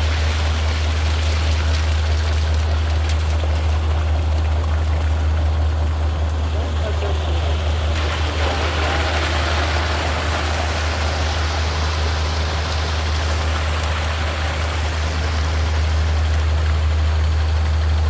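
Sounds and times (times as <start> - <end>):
wet concrete pouring: 0.0 - 18.0
machinery engine humming: 0.3 - 18.0.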